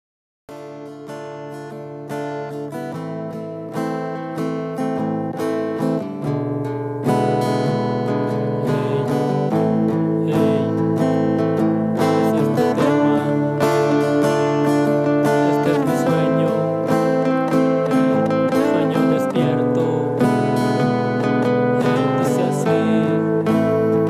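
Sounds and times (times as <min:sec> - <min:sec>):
acoustic guitar music: 0:00.5 - 0:24.0.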